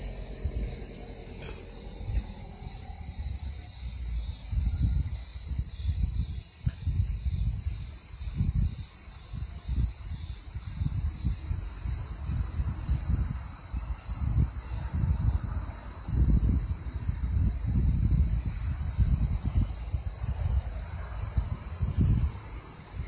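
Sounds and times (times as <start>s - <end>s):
insect chorus: 0.0s - 23.0s
wind buffeting microphone: 0.0s - 23.0s.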